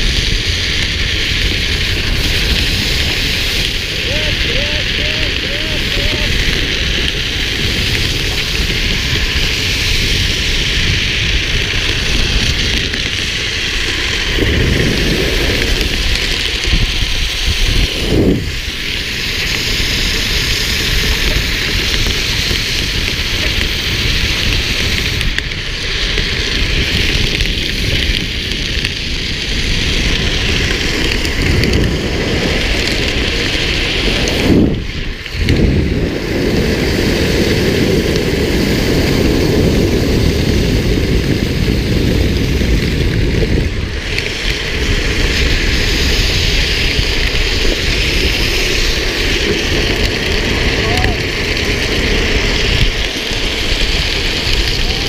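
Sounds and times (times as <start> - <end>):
rushing wind: 0.0 - 55.0
tyre hiss on wet road: 0.0 - 55.0.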